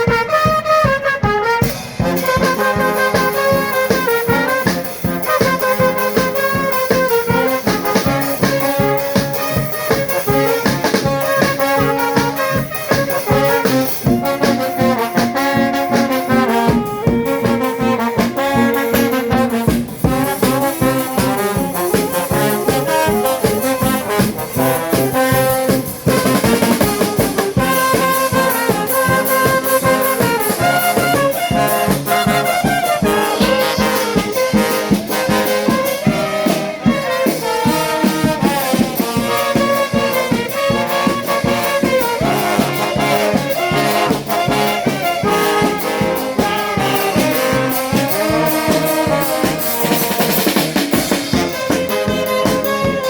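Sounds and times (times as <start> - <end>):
steady drum beat: 0.0 - 53.0
trumpets and trombones melody: 0.0 - 53.0.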